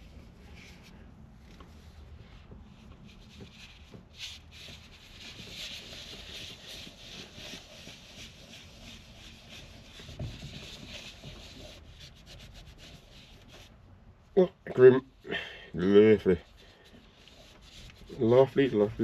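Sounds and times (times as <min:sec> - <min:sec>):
cloth scrubbing steering wheel: 0:00.0 - 0:13.8, 0:16.0 - 0:19.0.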